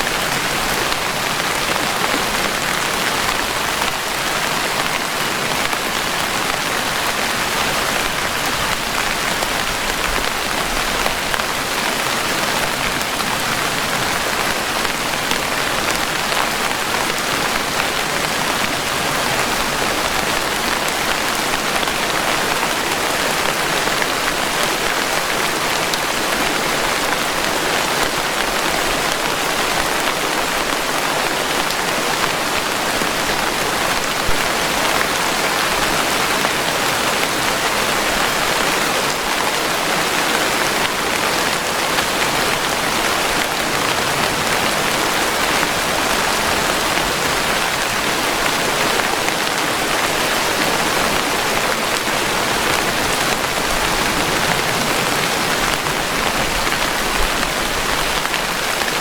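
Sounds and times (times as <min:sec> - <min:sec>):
dense rainfall: 0:00.0 - 0:59.0.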